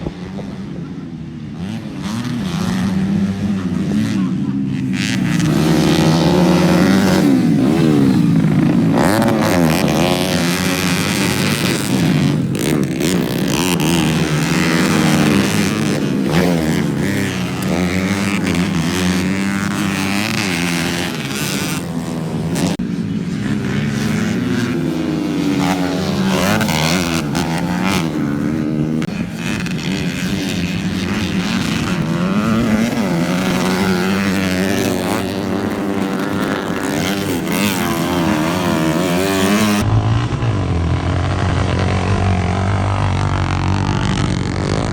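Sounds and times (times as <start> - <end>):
motocross bike engines revving: 0.0 - 44.9.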